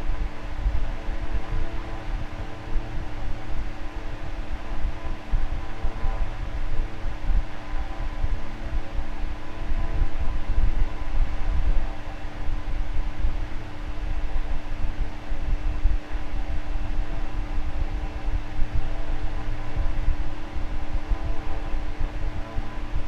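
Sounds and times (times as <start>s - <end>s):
electric fan running: 0.0s - 23.0s.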